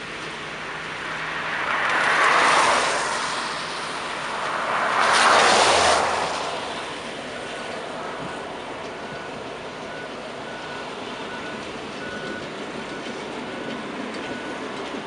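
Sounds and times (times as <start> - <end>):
vehicles passing on wet road: 0.0 - 15.0.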